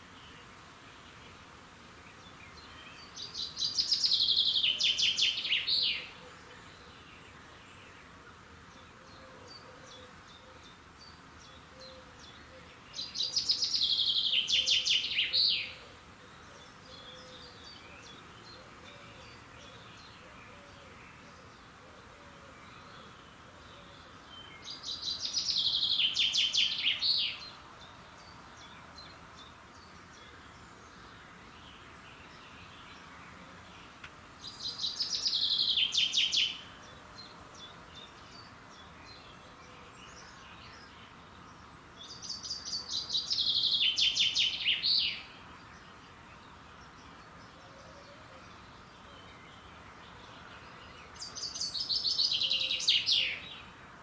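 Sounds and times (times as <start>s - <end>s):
faint steady hiss: 0.0s - 54.0s
songbird singing: 0.0s - 54.0s.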